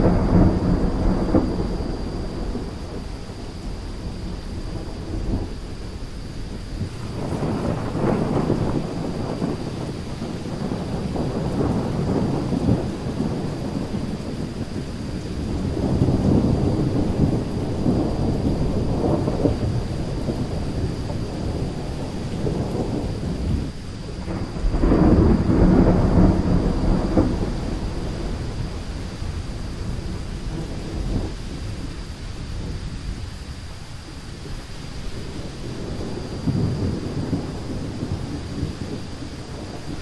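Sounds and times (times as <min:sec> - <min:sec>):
rolling thunder: 0:00.0 - 0:40.0
steady rain: 0:00.0 - 0:40.0.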